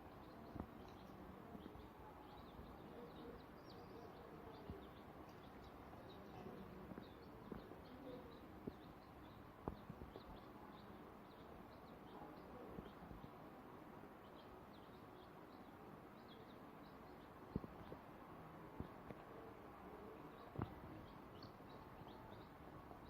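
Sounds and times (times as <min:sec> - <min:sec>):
chicks peeping: 0:00.0 - 0:13.4, 0:14.2 - 0:18.1, 0:20.2 - 0:23.0.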